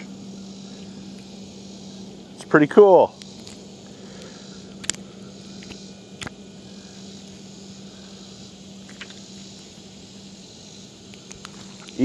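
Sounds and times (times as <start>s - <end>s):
background hiss: 0.0s - 12.0s
faint low hum: 0.0s - 12.0s.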